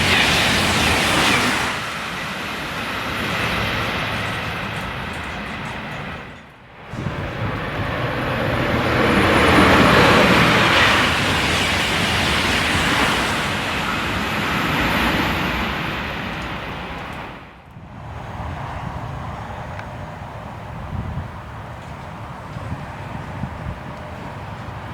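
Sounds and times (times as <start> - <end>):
high-speed train passing: 0.0 - 24.9.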